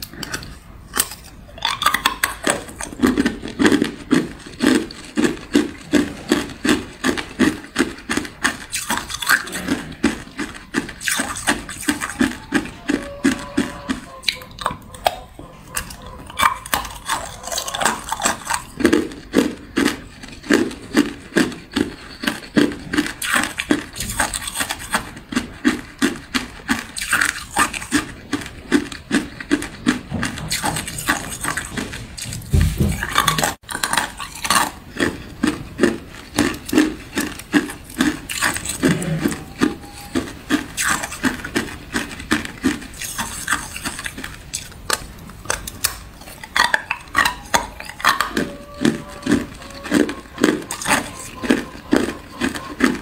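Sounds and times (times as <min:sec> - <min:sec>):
ice being chewed crunching: 0:00.0 - 0:53.0.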